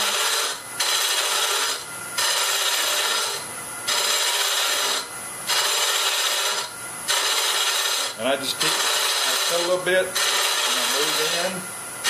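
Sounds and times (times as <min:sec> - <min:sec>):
lathe cutter scraping wood: 0:00.0 - 0:11.6.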